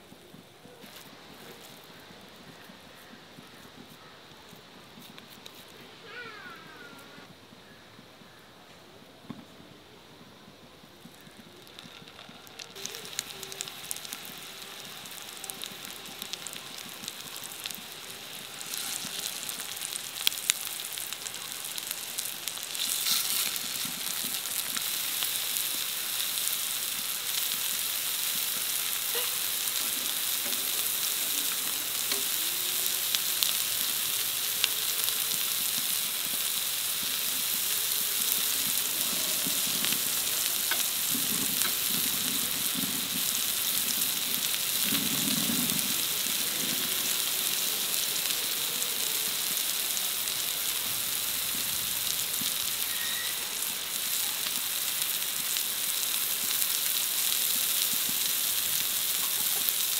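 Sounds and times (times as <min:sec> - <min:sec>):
oil crackling: 0:00.0 - 0:07.2, 0:10.8 - 0:59.9
patties sizzling in oil: 0:00.0 - 0:08.4, 0:09.4 - 0:59.9.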